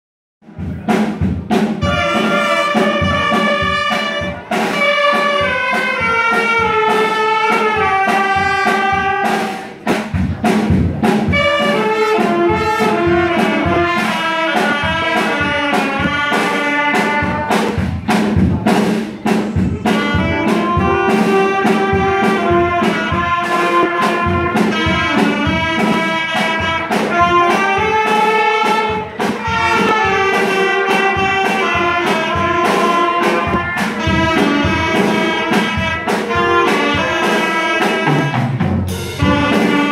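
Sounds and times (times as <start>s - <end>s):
drum kit beat: 0.4s - 39.9s
saxophones and trumpets melody: 1.7s - 9.9s, 11.2s - 17.9s, 19.2s - 39.9s.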